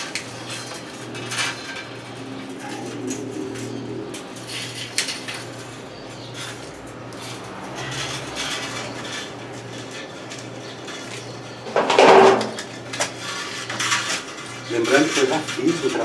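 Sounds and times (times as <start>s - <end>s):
metal wire rustling and scraping: 0.0s - 16.0s
metallic clatter: 0.0s - 16.0s.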